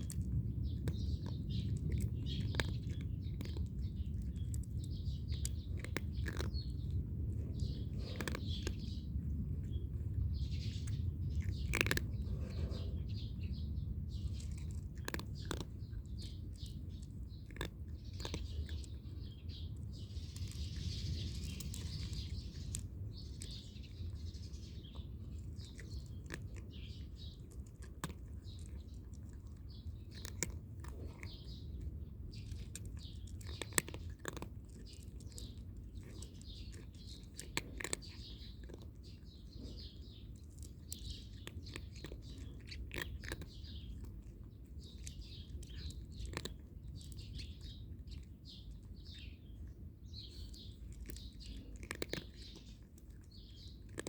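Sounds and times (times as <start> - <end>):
cat crunching dry kibble: 0.0 - 54.0
small birds chirping: 0.0 - 54.0.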